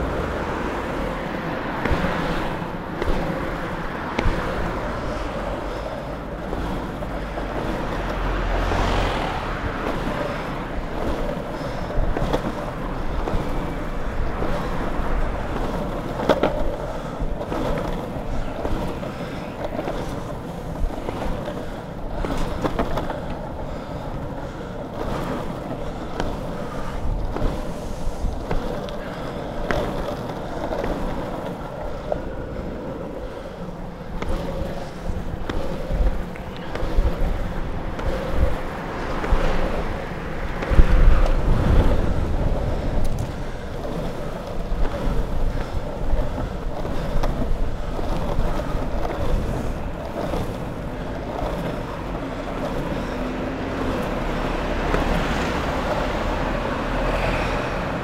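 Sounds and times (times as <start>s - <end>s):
longboard wheels rolling on asphalt: 0.0s - 58.0s
wheels clicking over road cracks: 0.0s - 58.0s.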